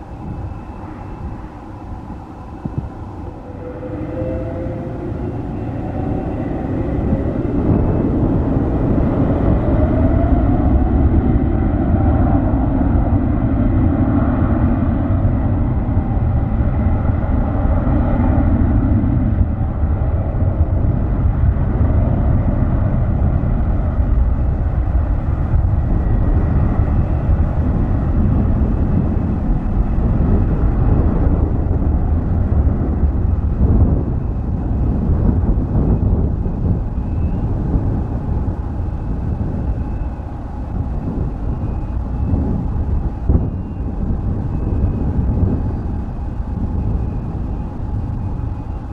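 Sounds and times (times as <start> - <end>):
jet engines roaring: 0.0 - 48.9.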